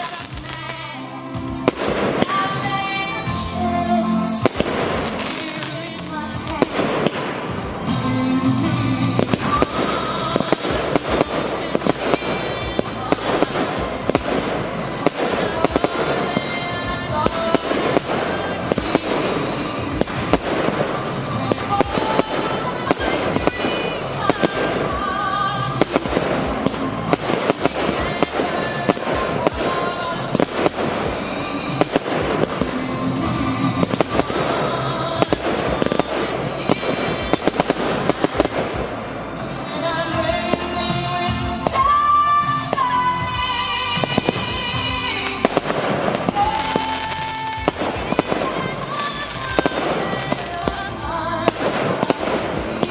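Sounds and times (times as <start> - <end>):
fireworks bangs: 0.0 - 52.9
fireworks crackling: 0.0 - 52.9
music playing: 0.0 - 52.9.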